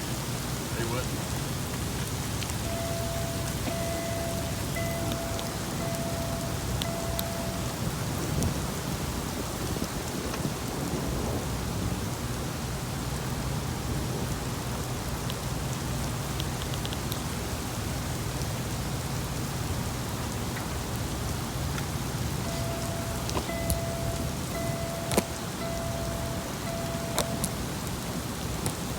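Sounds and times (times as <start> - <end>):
low rumble of thunder: 0.0 - 16.4, 17.4 - 28.6
heavy rain falling: 0.0 - 28.9.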